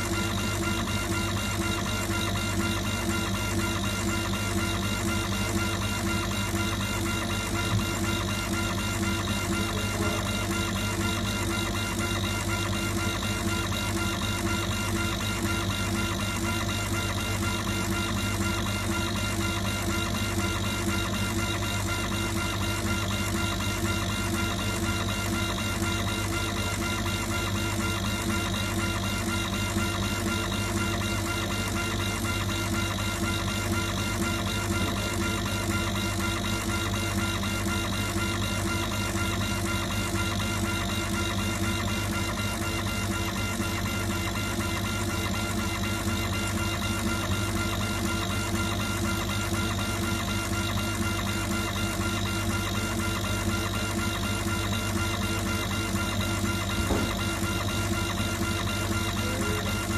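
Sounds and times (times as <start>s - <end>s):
laser engraving machine humming: 0.0s - 59.9s.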